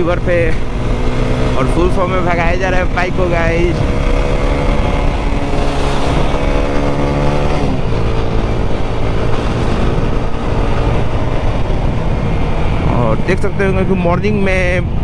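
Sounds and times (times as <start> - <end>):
motorcycle engine accelerating: 0.0 - 14.7.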